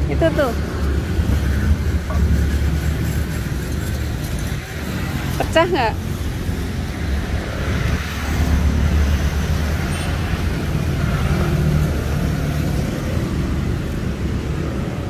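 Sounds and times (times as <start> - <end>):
street noise hum: 0.0 - 15.0
vehicle engine rumbling: 0.0 - 15.0.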